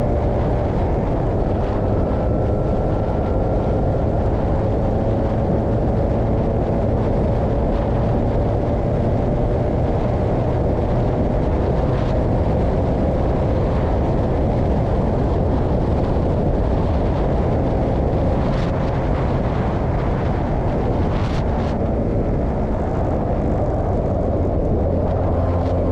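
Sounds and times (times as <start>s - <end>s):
race car engine roar: 0.0s - 25.9s.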